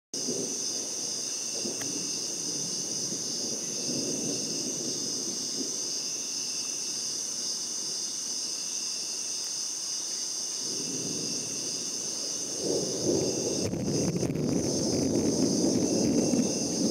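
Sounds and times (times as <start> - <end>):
night insects shrilling: 0.2 - 16.9.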